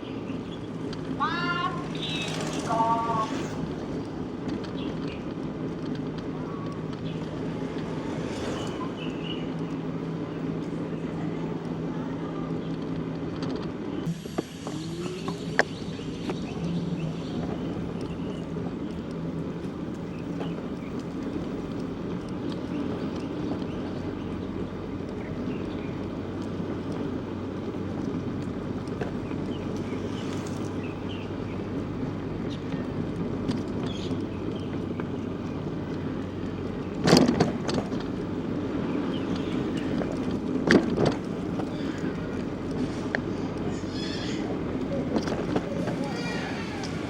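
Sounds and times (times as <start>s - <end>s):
bicycle tyres rumbling on road: 0.0s - 47.0s.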